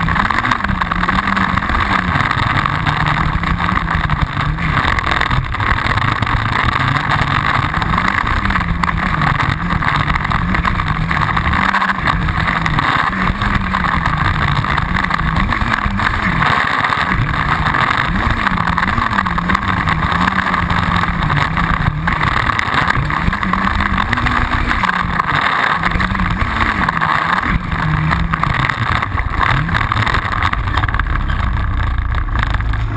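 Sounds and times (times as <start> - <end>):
two-stroke engine revving: 0.0 - 32.9.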